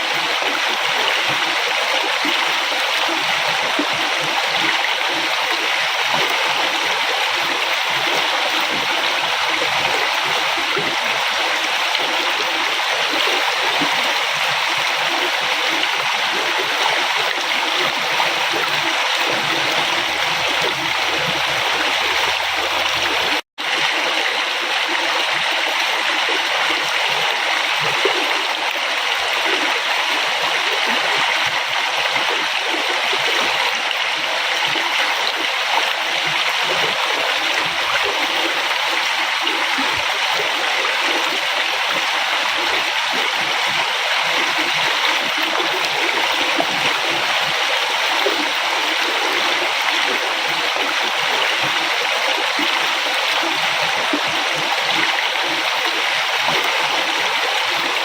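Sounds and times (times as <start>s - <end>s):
stream splashing and gurgling: 0.0s - 58.0s.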